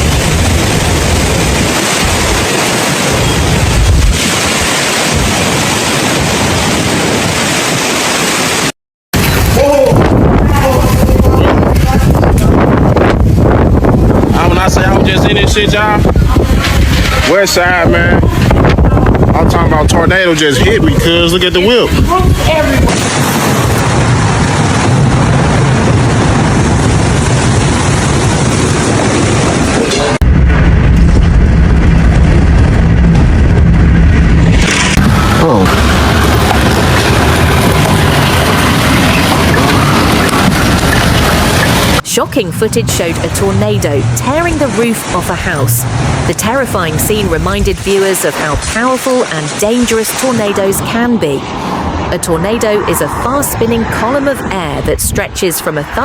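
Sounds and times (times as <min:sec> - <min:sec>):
wind buffeting microphone: 0:00.0 - 0:08.2, 0:09.2 - 0:56.0
storm wind and rain rushing: 0:00.0 - 0:56.0.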